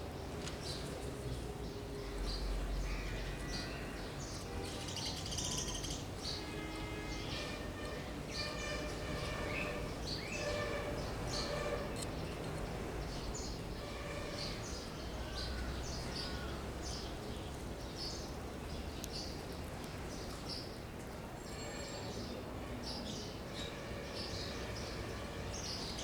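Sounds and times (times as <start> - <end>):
sparrows chirping: 1.6 - 26.0.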